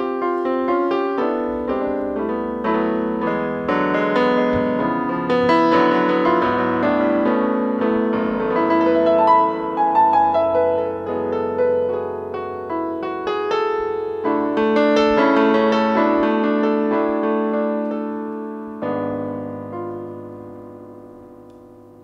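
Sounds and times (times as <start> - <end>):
slow digital piano: 0.0 - 22.0.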